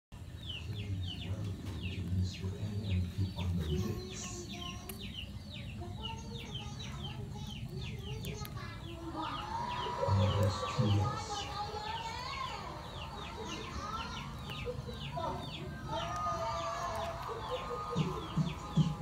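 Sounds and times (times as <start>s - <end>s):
chicks peeping: 0.2s - 19.0s.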